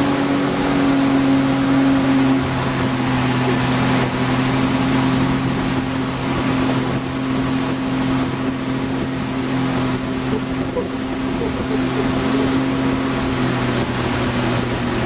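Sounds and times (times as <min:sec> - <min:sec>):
boat engine droning: 0:00.0 - 0:15.0
wind and water rushing: 0:00.0 - 0:15.0.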